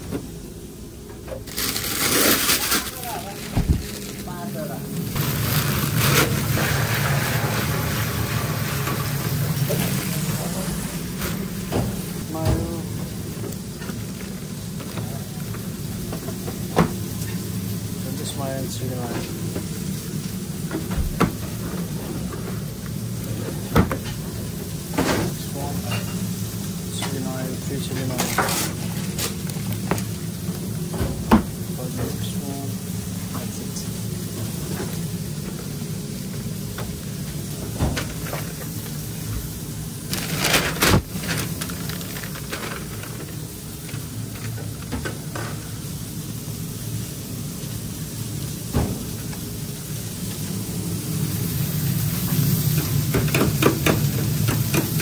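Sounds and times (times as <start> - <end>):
kitchen hum: 0.0 - 55.0.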